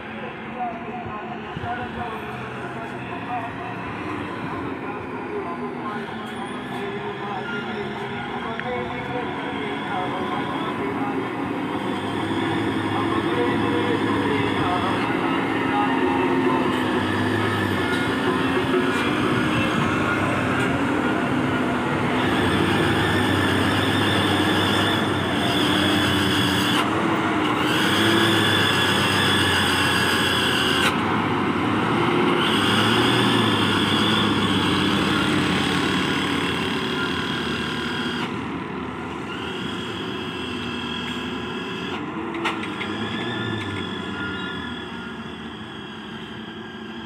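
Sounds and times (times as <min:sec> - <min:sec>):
diesel trucks driving past: 0:00.0 - 0:47.0.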